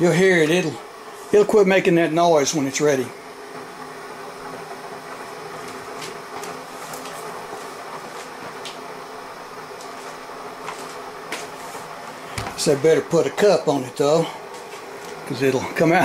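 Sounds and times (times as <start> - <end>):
coffee maker humming: 0.0 - 16.0.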